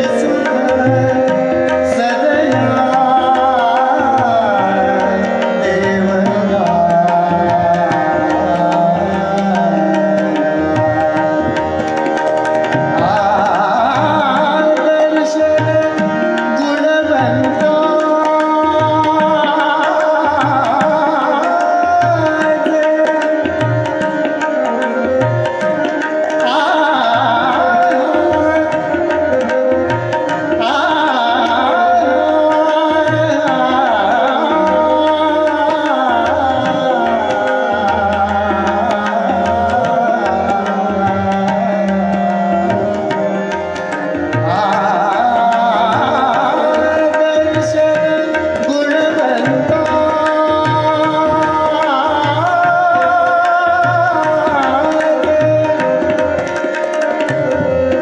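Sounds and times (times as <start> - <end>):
harmonium: 0.0 - 58.0
man singing ornamented runs: 0.0 - 58.0
tabla rhythm: 0.0 - 58.0.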